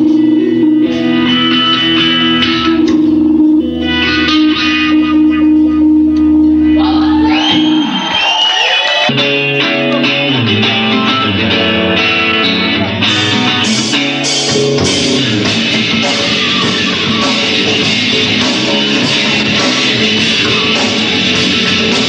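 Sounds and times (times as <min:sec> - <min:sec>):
electric guitar riff: 0:00.0 - 0:08.2, 0:08.8 - 0:22.0
rock band playing: 0:00.0 - 0:22.0.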